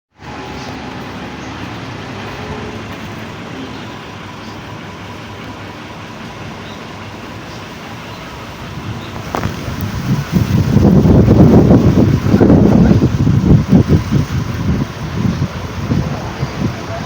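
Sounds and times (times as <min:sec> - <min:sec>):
aircraft engine running: 0:00.1 - 0:17.0.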